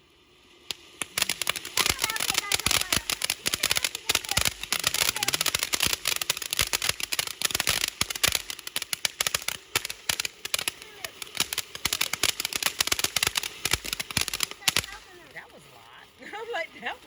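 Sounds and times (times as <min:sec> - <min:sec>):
fireworks crackling pops: 0:00.0 - 0:17.0.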